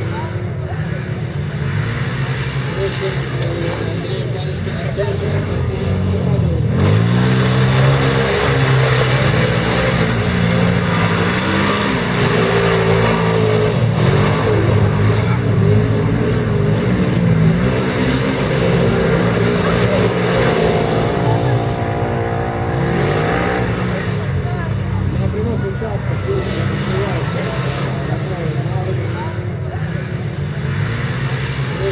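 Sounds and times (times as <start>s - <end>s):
quad bike engines revving: 0.0s - 31.9s.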